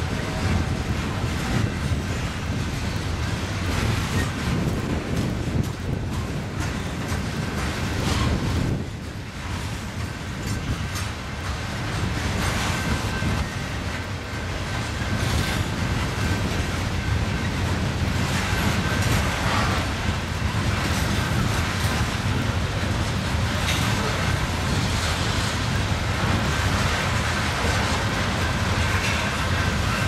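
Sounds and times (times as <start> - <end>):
freight train wheels rumbling: 0.0 - 30.0
train clicks: 0.0 - 30.0.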